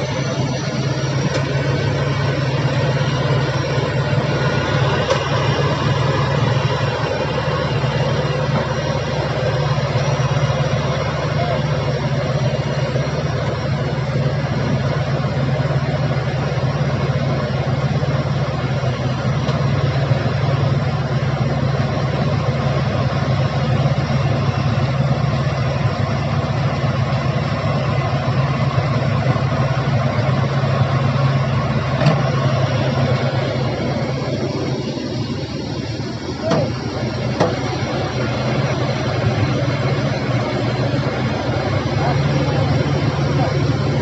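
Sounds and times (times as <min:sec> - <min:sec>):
diesel engine running steadily: 0:00.0 - 0:44.0.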